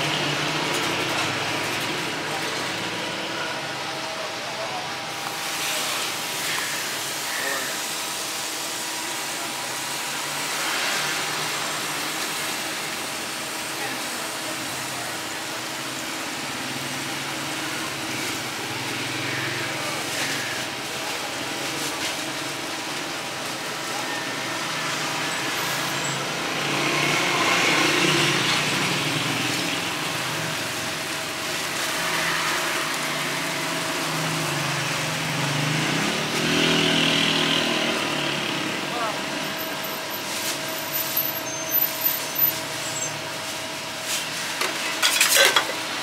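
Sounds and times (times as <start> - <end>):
passing traffic: 0.0 - 46.0.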